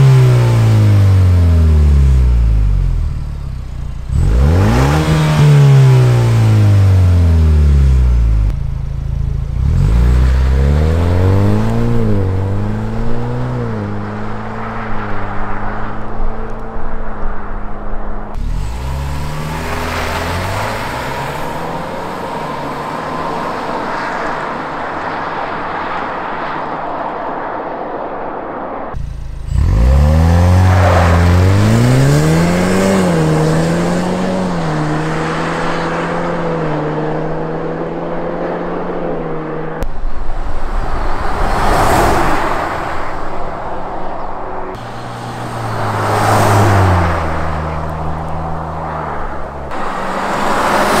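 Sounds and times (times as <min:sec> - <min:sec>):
car engine accelerating hard: 0:00.0 - 0:27.0, 0:28.9 - 0:51.0.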